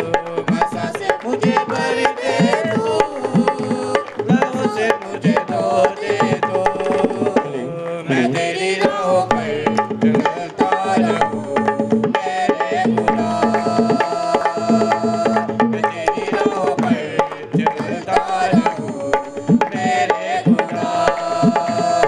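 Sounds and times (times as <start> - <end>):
devotional song: 0.0 - 22.0
hand drum beat: 0.0 - 22.0.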